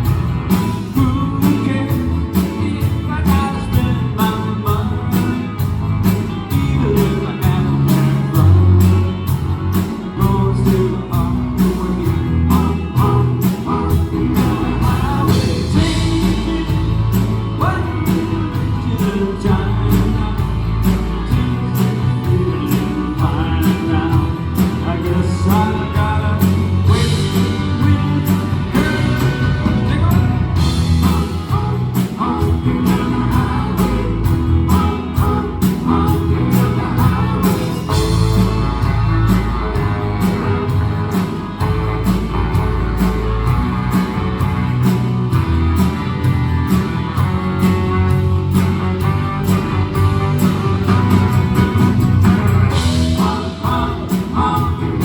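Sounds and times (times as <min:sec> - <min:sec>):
live rock band playing: 0:00.0 - 0:55.0
steady drum beat: 0:00.0 - 0:55.0
person singing: 0:00.5 - 0:43.2, 0:48.1 - 0:55.0.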